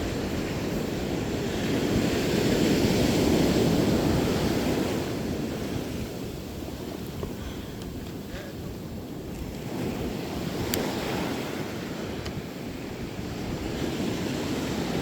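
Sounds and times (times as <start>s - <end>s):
ocean surf on shoreline: 0.0s - 15.0s
wind on microphone: 0.0s - 15.0s.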